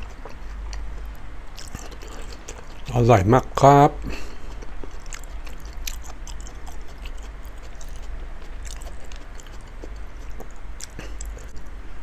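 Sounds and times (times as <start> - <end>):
person chewing wetly: 0.0 - 2.9, 4.0 - 11.8.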